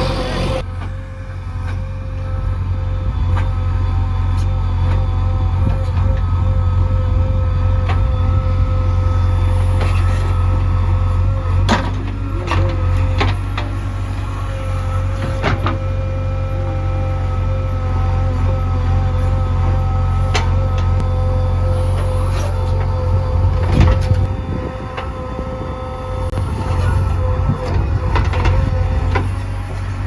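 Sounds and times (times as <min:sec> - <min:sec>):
heavy machine engine rumbling: 0:00.0 - 0:30.0.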